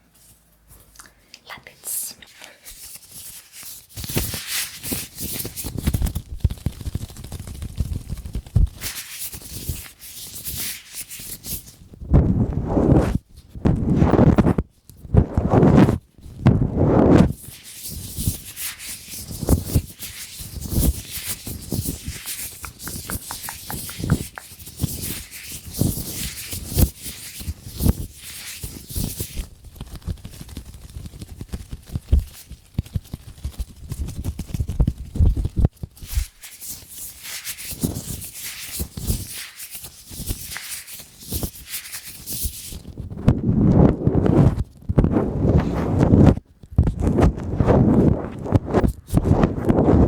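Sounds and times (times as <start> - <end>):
latex gloves rubbing and crackling: 2.2 - 50.0.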